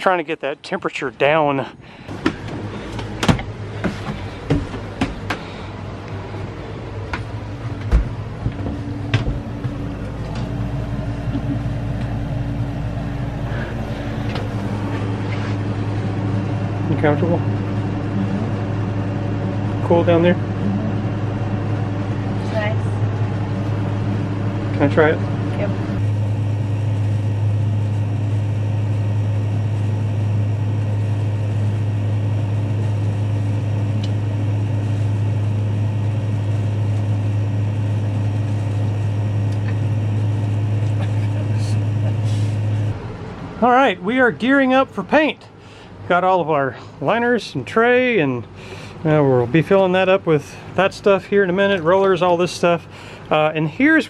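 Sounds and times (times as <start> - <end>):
air conditioner humming: 0.0 - 54.0.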